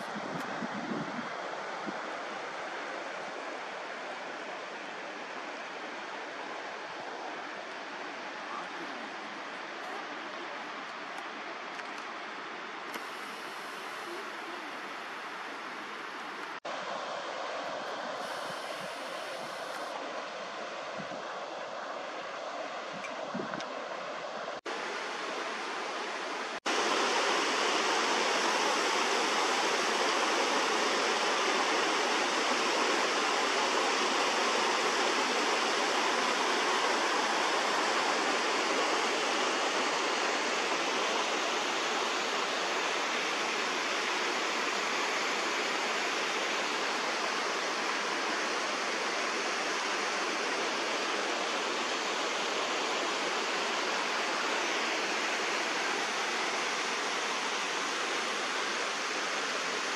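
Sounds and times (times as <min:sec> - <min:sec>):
creek rushing over rocks: 0:00.0 - 0:59.9.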